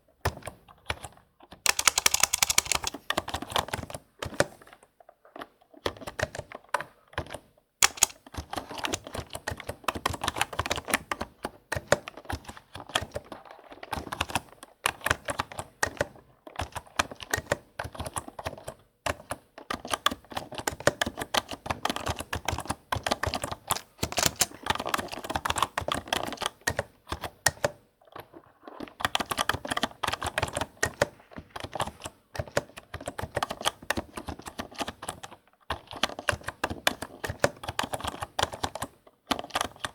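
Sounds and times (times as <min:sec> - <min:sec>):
computer keyboard typing: 0:00.3 - 0:04.6, 0:07.2 - 0:13.2, 0:13.8 - 0:27.8, 0:28.7 - 0:39.9.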